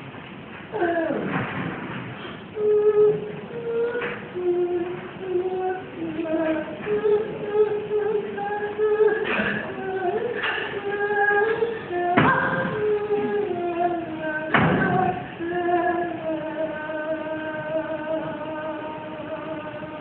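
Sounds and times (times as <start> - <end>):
woman singing slow melody: 2.6 - 20.0.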